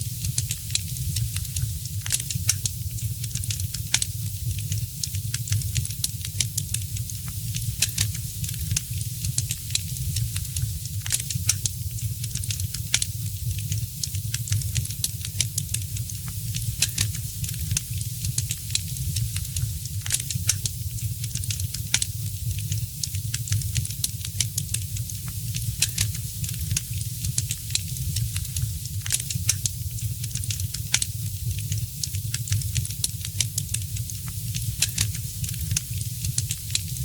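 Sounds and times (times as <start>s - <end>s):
fire crackling and popping: 0.2s - 37.0s.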